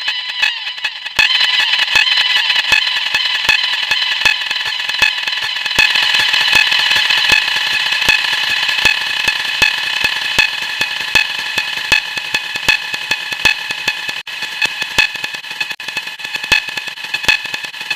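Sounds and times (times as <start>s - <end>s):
high-pitched drone: 0.0s - 17.9s
dense sharp clicks: 0.4s - 17.9s.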